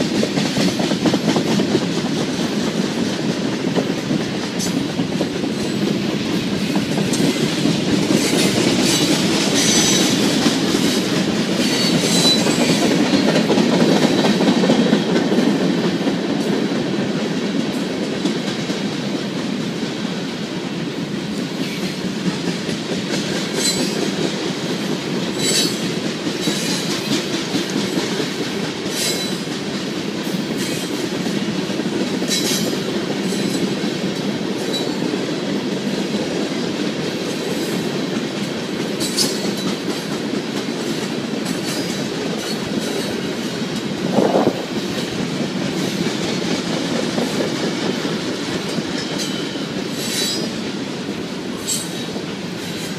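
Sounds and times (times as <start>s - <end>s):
clickety-clack over rail joints: 0.0s - 52.9s
freight train wheels rumbling: 0.0s - 52.9s.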